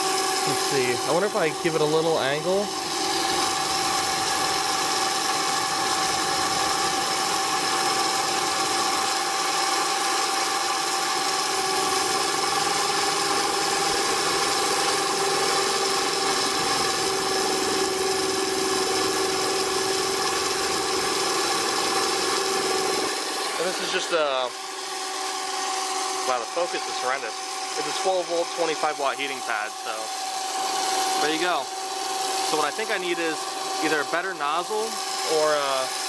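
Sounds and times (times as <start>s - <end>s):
motor generator whine: 0.0s - 36.0s.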